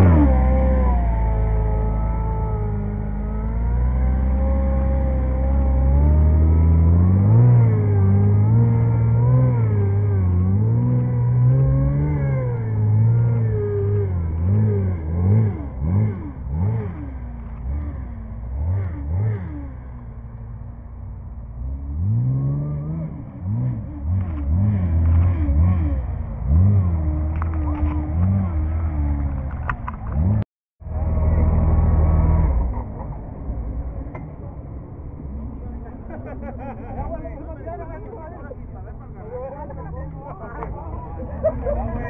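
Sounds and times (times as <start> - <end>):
buggy engine revving: 0.0 - 42.0.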